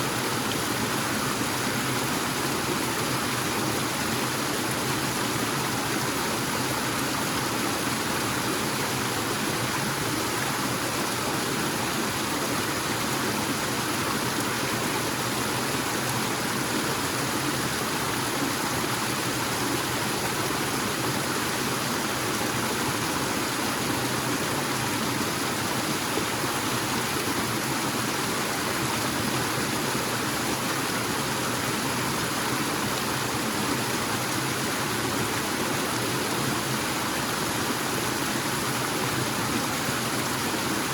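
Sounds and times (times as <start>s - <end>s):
waterfall and stream rushing: 0.0s - 40.9s.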